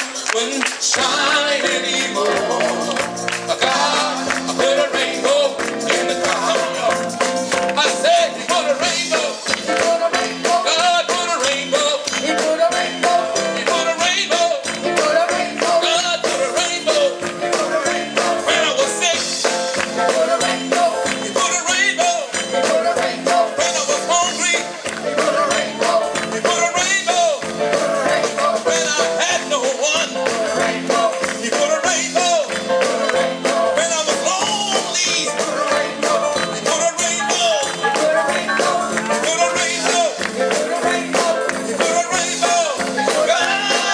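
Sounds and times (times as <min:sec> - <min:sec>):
live gospel band playing: 0:00.0 - 0:43.9.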